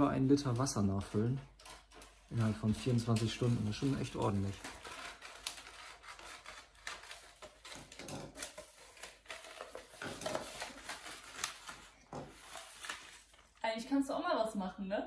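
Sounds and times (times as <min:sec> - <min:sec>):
wrapping paper rustling: 0:00.0 - 0:14.0.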